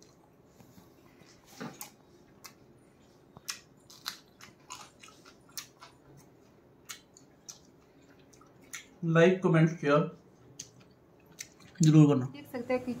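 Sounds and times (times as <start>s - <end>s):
person chewing food: 0.0s - 9.0s, 10.2s - 12.0s.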